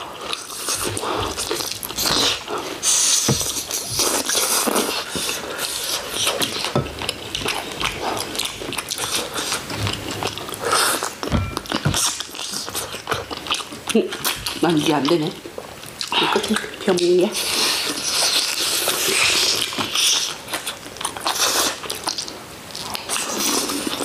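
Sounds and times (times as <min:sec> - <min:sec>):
wet chewing and mouth smacks: 0:00.0 - 0:24.0.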